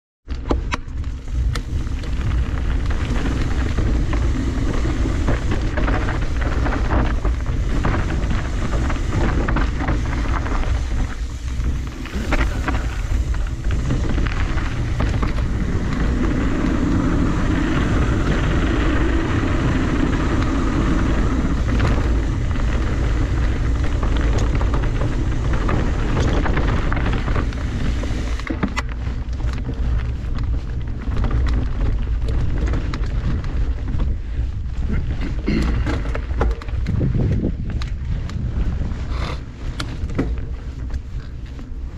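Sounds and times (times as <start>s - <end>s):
bike rattling over bumps: 0.2s - 41.9s
wind rumble on microphone: 0.2s - 41.9s
bike tyres crunching over gravel: 0.3s - 41.9s.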